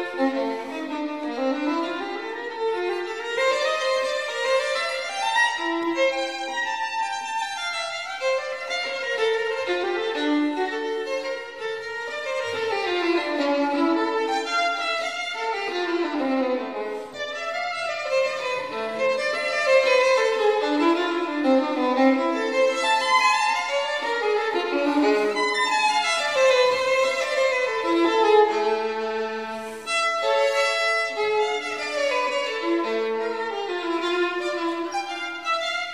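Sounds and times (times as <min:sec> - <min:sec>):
violin melody: 0:00.0 - 0:35.9.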